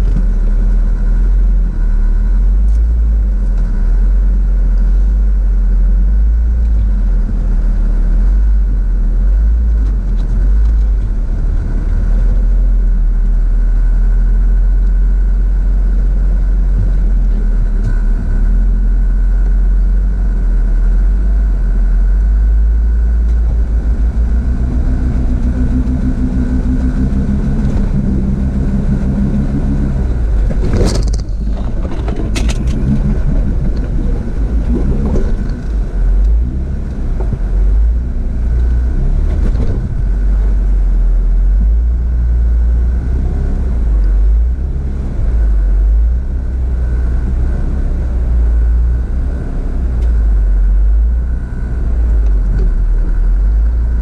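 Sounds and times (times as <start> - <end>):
car engine low rumble: 0.0 - 54.0.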